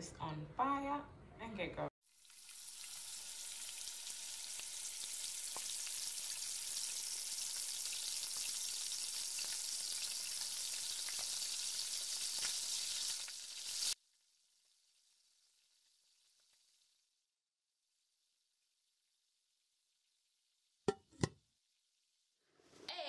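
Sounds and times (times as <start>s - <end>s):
food sizzling in a pot: 2.0s - 21.2s.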